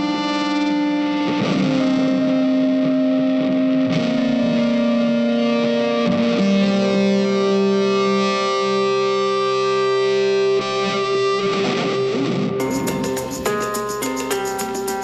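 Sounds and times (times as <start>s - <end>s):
guitar with effects music: 0.0s - 15.0s.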